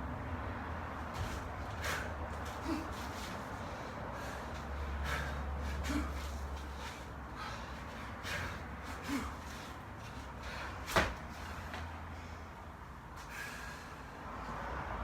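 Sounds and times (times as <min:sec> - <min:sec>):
person breathing hard: 0:01.7 - 0:14.3.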